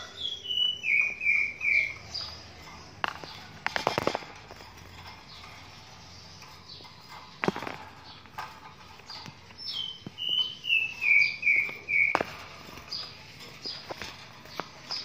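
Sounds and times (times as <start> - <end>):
small bird singing: 0.0 - 15.0.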